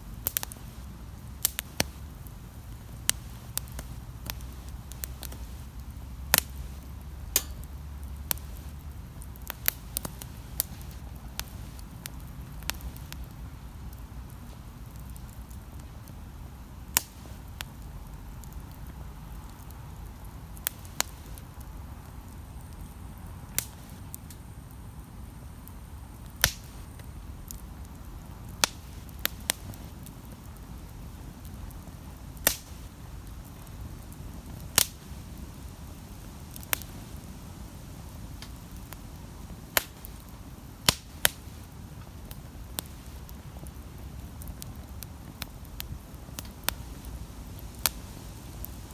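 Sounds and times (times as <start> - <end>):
campfire crackling and popping: 0.0 - 48.9
fire low rumble: 0.0 - 48.9.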